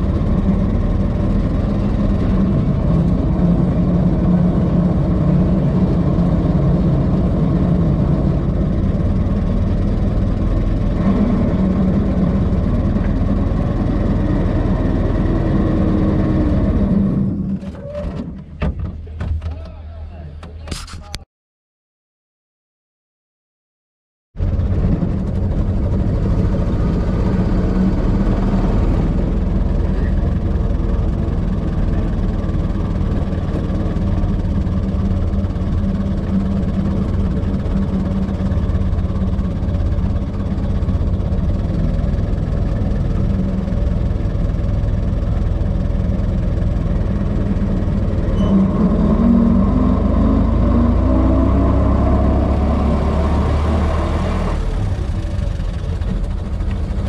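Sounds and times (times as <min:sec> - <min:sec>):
old car engine running: 0:00.0 - 0:19.8, 0:24.4 - 0:50.6, 0:53.6 - 0:57.0.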